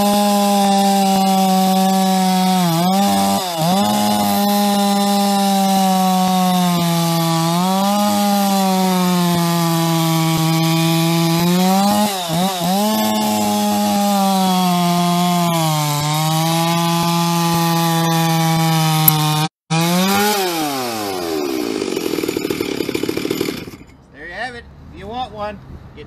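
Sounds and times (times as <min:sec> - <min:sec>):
chainsaw cutting log: 0:00.0 - 0:23.9.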